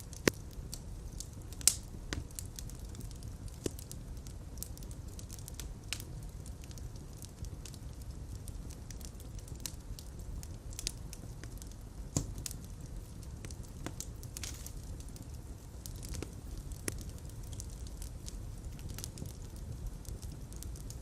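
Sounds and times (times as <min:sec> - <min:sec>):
fire burning low rumble: 0:00.0 - 0:21.0
fire crackles and pops: 0:00.0 - 0:21.0.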